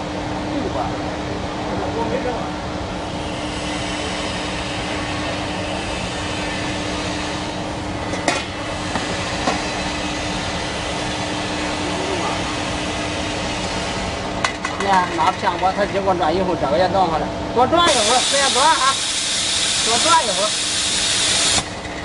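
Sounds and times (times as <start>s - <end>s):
constant low hum: 0.0s - 22.0s
production line machinery: 2.8s - 16.8s, 17.7s - 22.0s.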